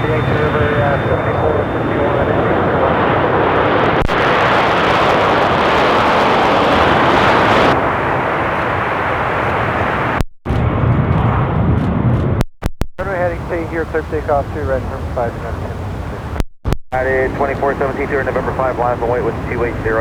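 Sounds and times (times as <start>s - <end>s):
jet airliner engines: 0.0s - 12.4s, 13.0s - 16.4s, 17.0s - 20.0s.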